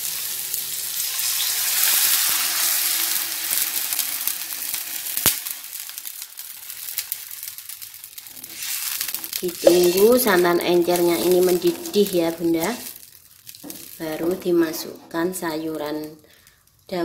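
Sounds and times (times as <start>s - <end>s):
paste sizzling in hot pan: 0.0s - 15.0s.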